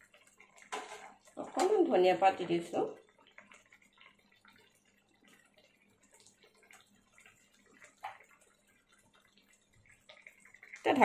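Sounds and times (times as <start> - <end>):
curry simmering with pops: 0.0 - 11.0.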